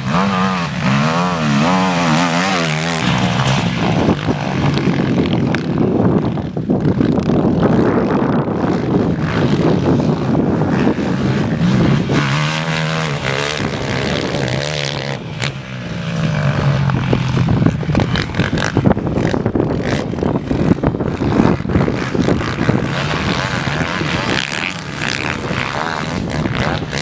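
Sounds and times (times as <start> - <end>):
quad engines racing: 0.0 - 27.0.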